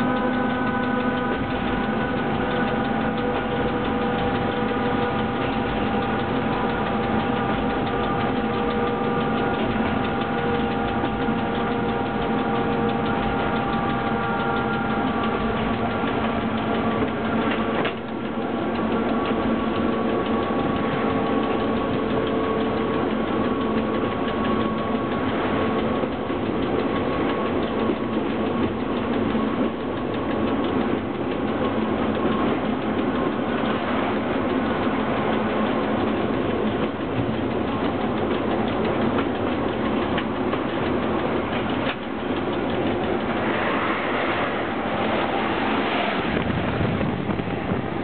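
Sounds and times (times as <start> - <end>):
locomotive rumble and rattle: 0.0 - 48.0.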